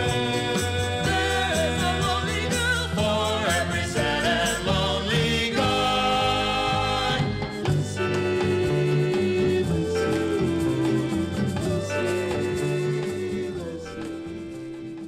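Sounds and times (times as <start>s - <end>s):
person singing: 0.0s - 15.0s
soul song on vinyl record: 0.0s - 15.0s.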